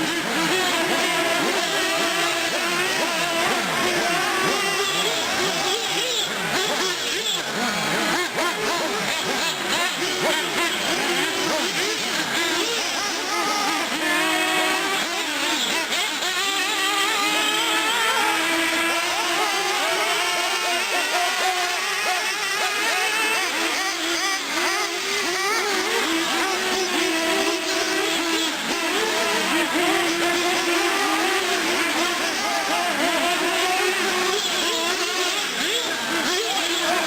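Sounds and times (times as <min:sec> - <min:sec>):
model car engines revving: 0:00.0 - 0:37.0.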